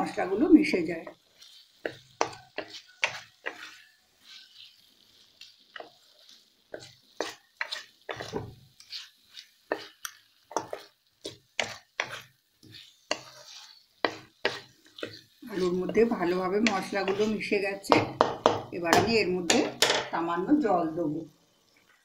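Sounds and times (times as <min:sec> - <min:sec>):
spatula scraping a pan: 0:00.0 - 0:20.1
light sizzle: 0:00.0 - 0:22.0.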